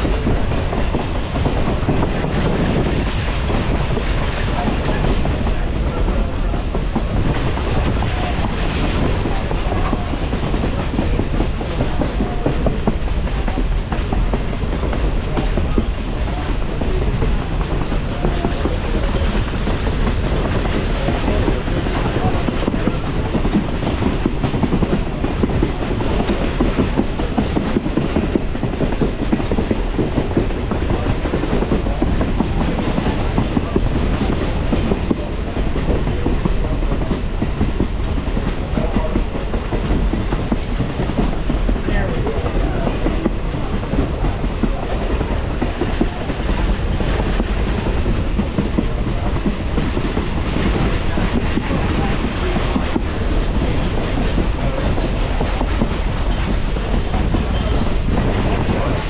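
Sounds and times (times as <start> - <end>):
clickety-clack of rail joints: 0.0 - 59.0
train wheels rumbling on rail: 0.0 - 59.0.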